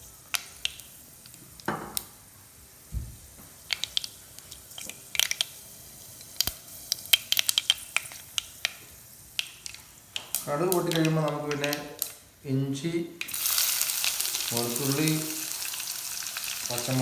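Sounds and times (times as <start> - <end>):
oil sizzling: 0.0 - 17.0
seeds popping in hot oil: 0.2 - 2.2, 3.5 - 12.2, 13.2 - 17.0.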